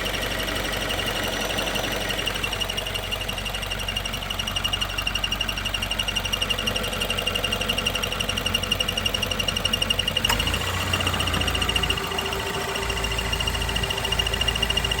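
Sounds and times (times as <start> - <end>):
rapid engine ticking: 0.0 - 15.0.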